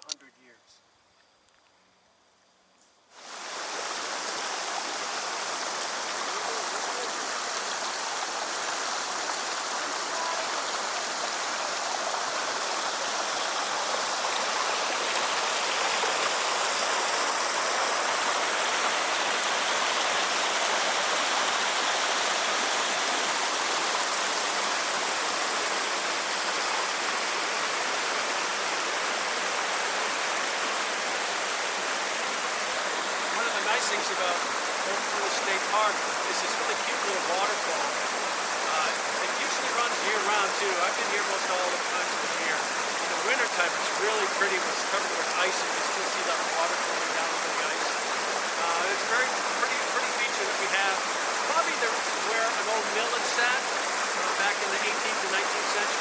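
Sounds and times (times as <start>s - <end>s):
small waterfall splashing: 3.1s - 56.0s.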